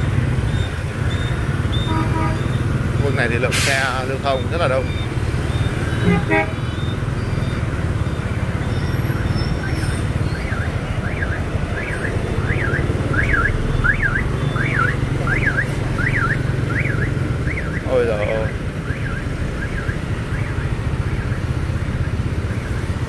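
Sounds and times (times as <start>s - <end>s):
dense traffic: 0.0s - 23.0s
electronic alarm wailing: 4.3s - 22.9s.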